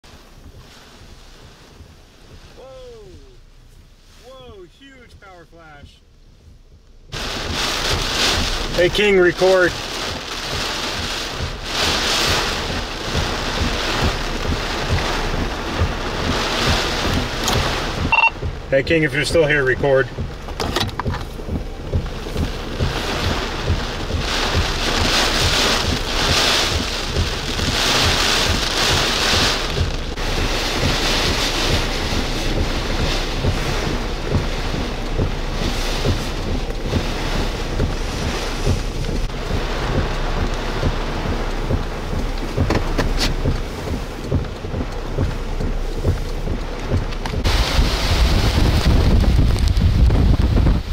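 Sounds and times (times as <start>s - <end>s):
heavy rain: 0.0s - 50.9s
hurricane wind: 0.0s - 50.9s
wind buffeting microphone: 6.2s - 50.9s.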